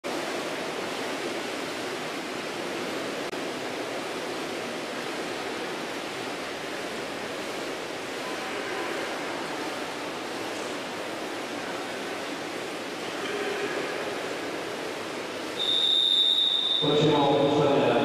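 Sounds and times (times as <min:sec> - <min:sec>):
water sloshing and splashing: 0:00.1 - 0:16.8.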